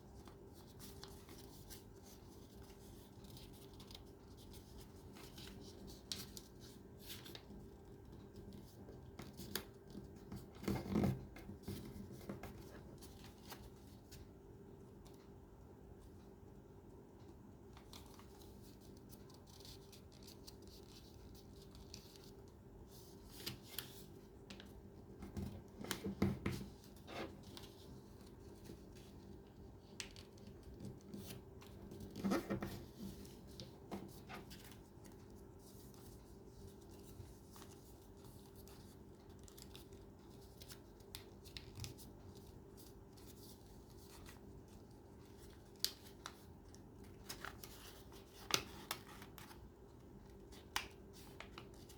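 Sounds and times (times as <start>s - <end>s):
paper handled and folded: 0.0s - 15.3s, 17.1s - 51.9s
faint steady hum: 0.0s - 51.9s.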